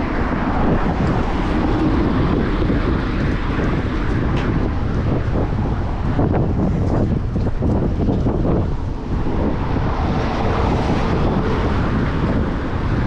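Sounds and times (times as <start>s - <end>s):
traffic and road noise: 0.0s - 13.0s
wind rushing over microphone: 0.0s - 13.0s.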